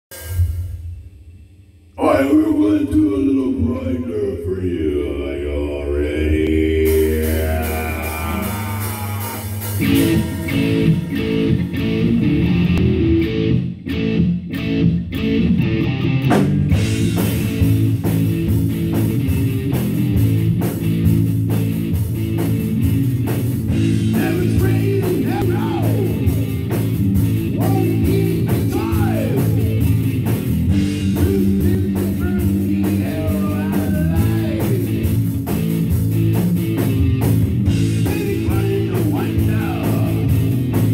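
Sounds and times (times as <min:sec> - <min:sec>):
rock music with guitar and drums: 0:06.8 - 0:40.9.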